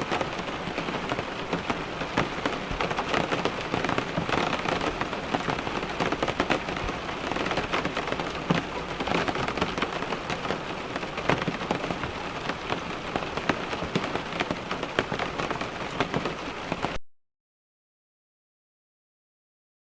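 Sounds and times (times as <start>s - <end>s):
rain pattering on car window: 0.0s - 17.0s.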